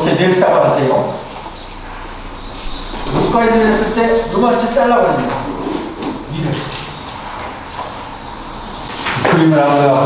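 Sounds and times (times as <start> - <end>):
room noise: 0.0 - 10.0.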